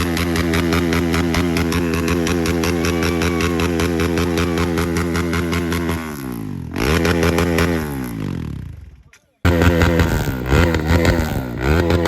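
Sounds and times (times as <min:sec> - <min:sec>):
motor engine revving: 0:00.0 - 0:12.0.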